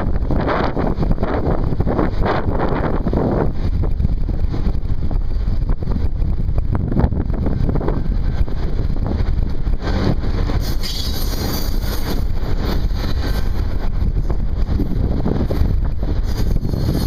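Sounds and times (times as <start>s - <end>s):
freight train rumbling: 0.0s - 17.0s
wind buffeting microphone: 0.0s - 17.0s.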